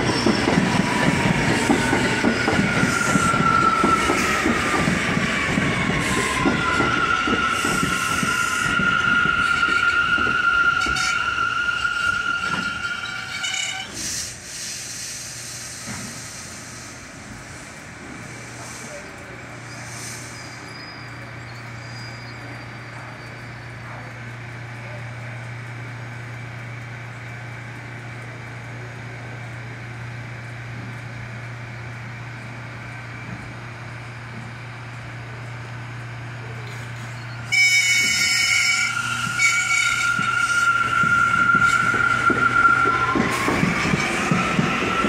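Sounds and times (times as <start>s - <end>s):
train low hum: 0.0s - 45.0s
train rumble and wheel clatter: 0.0s - 45.0s.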